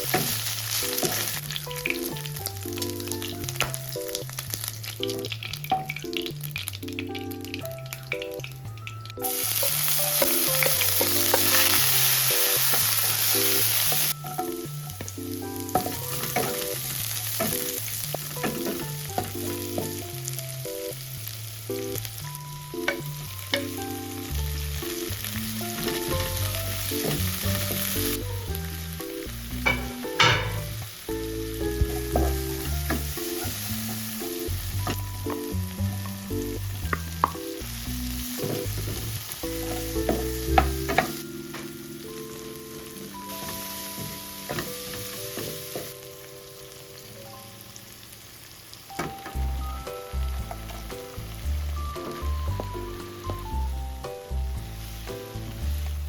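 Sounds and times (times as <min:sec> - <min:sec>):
light background music: 0:00.0 - 0:47.9, 0:48.9 - 0:56.0
food sizzling in a pan: 0:00.0 - 0:56.0.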